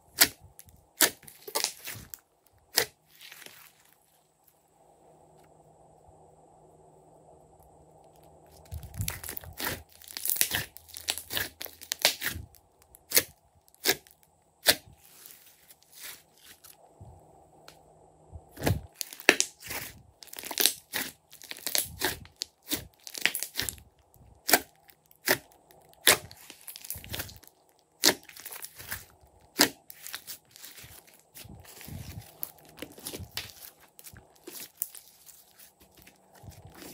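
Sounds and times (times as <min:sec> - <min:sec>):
slime squelching by hand: 0:00.0 - 0:04.0, 0:08.1 - 0:16.8, 0:18.6 - 0:36.9.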